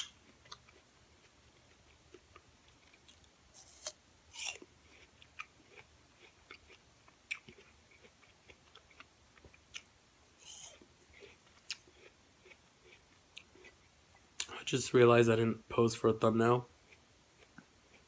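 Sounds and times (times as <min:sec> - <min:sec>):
person chewing apple crunches: 0:00.0 - 0:14.6, 0:16.8 - 0:18.0.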